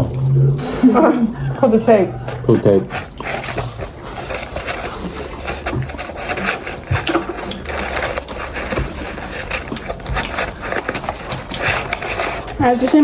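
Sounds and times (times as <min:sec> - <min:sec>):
rustling and clicks from eating: 0:00.0 - 0:13.0.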